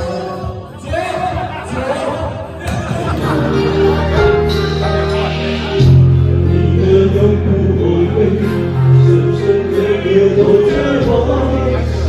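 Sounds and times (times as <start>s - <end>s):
karaoke backing track: 0.0s - 12.0s
man singing into microphone: 0.0s - 12.0s.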